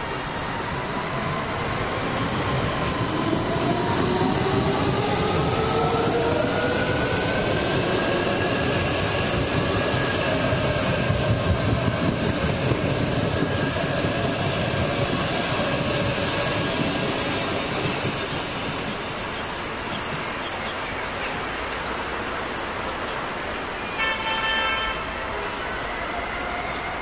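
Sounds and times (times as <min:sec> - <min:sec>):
electric train passing: 0:00.0 - 0:24.0, 0:24.9 - 0:27.0.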